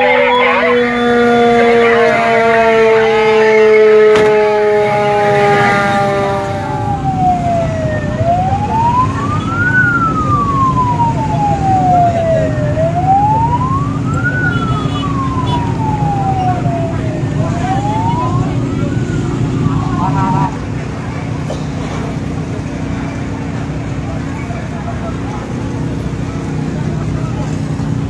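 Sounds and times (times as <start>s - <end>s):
fire truck siren wailing: 0.0s - 28.0s.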